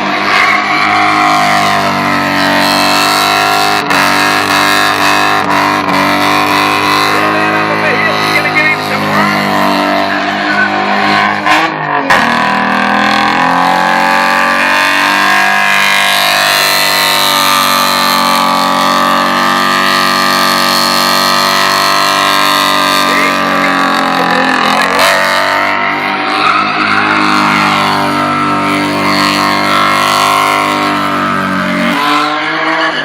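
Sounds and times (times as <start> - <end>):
car engine revving high: 0.0 - 33.0.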